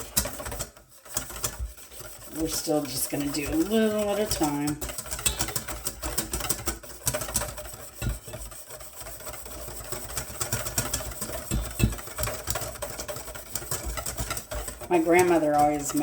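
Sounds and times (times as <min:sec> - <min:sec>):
whisk beating in a bowl: 0:00.0 - 0:16.0.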